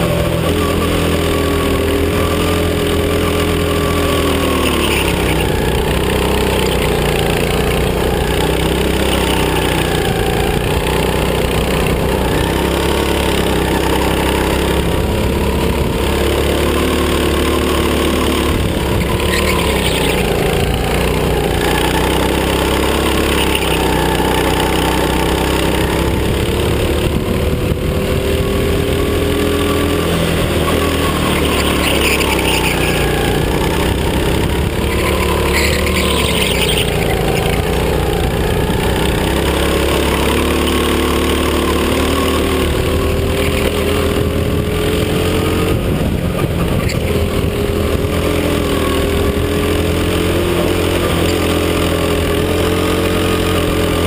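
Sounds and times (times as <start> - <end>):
racing kart engine: 0.0 - 54.0.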